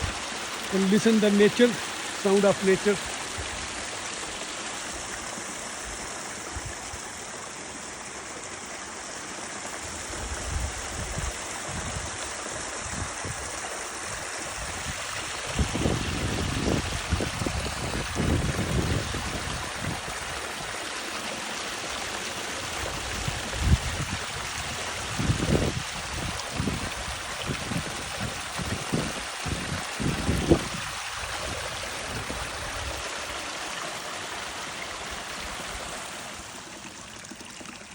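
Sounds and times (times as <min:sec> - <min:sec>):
stream flowing: 0:00.0 - 0:37.9.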